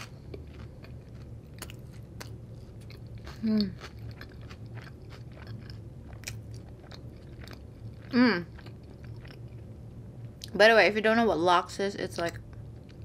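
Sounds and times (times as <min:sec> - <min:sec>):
person chewing close-up: 0:00.0 - 0:10.6, 0:12.2 - 0:13.0.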